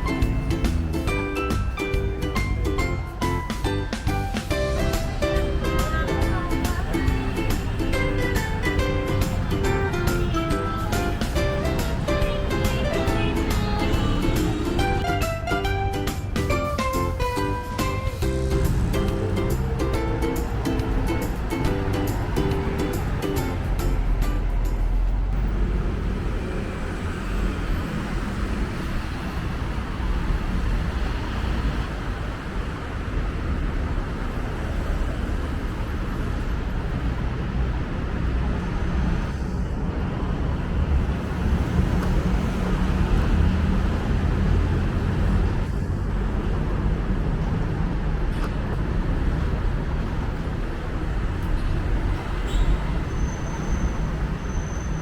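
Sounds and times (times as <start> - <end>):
road traffic drone: 0.0 - 55.0.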